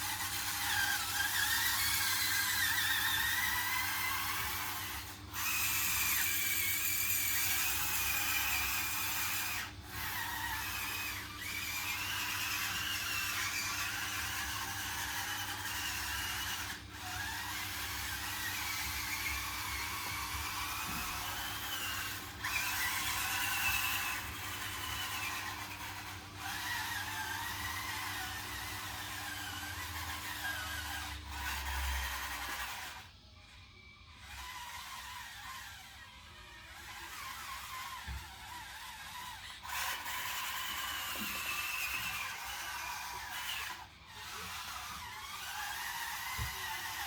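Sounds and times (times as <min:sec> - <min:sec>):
toy bulldozer motors whining: 0:00.0 - 0:47.0.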